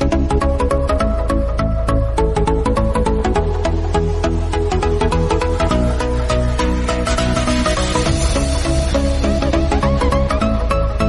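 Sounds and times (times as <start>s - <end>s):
electronic background music: 0.0s - 11.0s.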